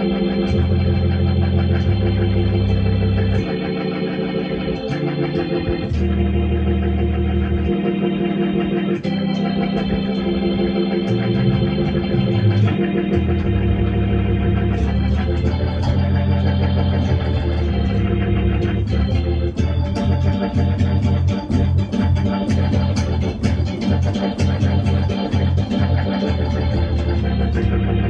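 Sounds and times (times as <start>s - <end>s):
electronic keyboard organ chords: 0.0s - 28.0s.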